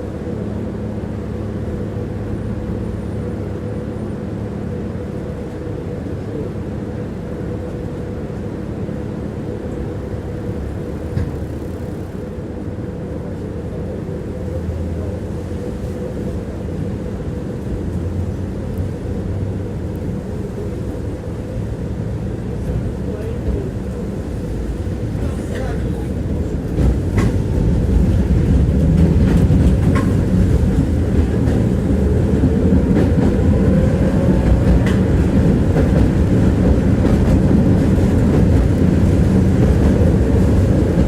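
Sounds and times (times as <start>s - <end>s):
tram wheels rumbling: 0.0s - 41.0s.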